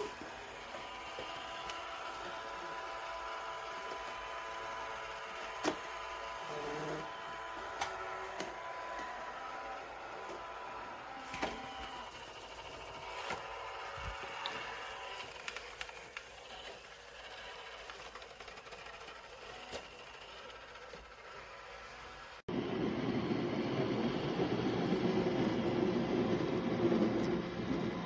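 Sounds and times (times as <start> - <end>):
robot vacuum whirring: 0.0 - 28.0.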